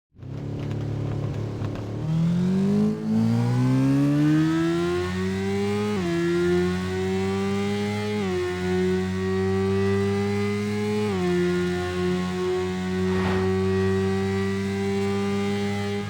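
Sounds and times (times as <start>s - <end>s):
motorcycle engine accelerating: 0.2s - 16.0s.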